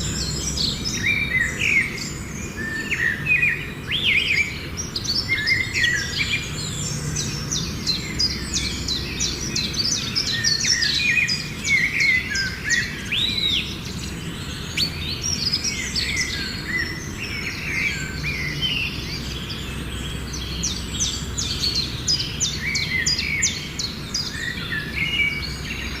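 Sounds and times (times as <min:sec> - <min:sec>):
birds chirping and whistling: 0:00.0 - 0:26.0.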